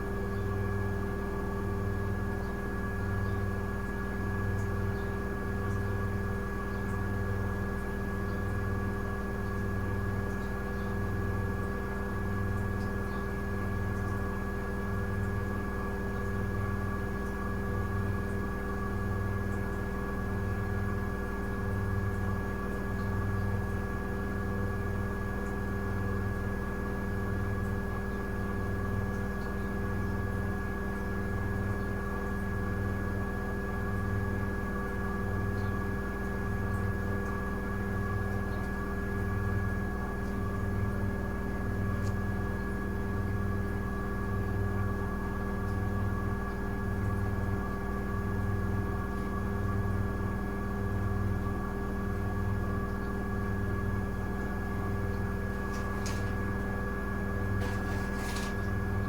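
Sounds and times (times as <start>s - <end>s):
washing machine motor whine: 0.0s - 59.0s.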